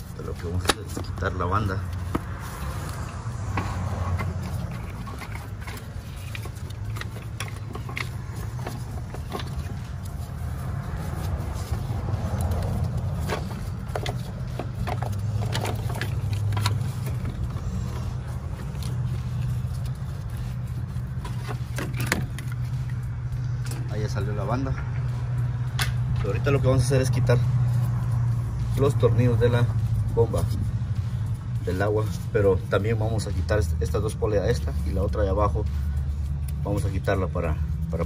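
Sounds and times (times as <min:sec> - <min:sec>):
belt clicking and rubbing: 0:00.0 - 0:38.0.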